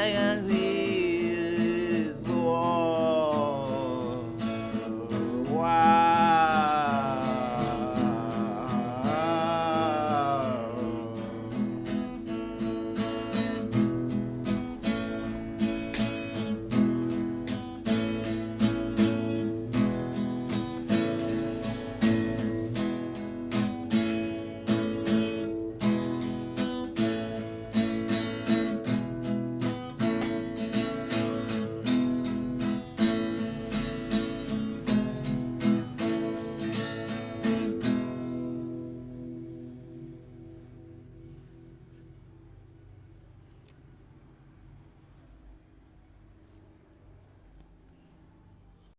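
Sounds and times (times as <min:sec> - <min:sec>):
guitar strumming chords: 0:00.0 - 0:42.5.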